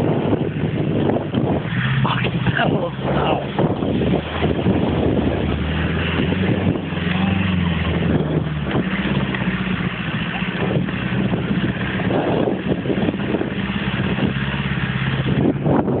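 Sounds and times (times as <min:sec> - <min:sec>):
steady rushing noise: 0:00.0 - 0:16.0
vehicle engine running: 0:00.0 - 0:16.0.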